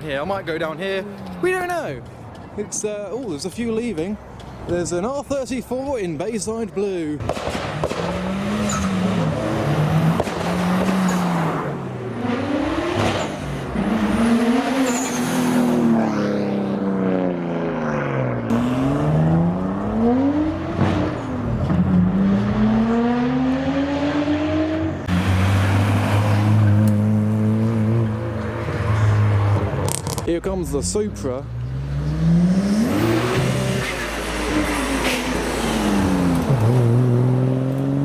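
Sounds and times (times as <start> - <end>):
car engine revving: 7.2 - 38.0.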